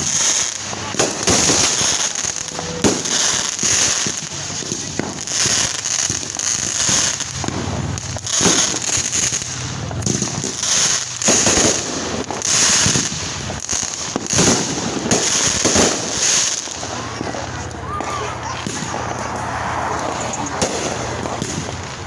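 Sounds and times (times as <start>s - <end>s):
fireworks bangs with crackling: 0.0s - 22.0s.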